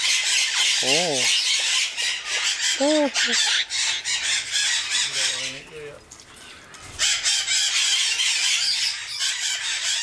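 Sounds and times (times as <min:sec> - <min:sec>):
parrots squawking and chattering: 0:00.0 - 0:10.0.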